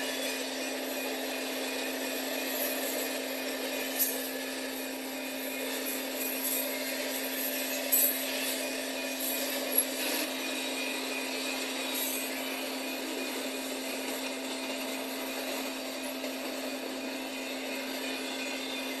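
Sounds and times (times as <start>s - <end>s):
steel wheels rolling on rails: 0.0s - 19.0s.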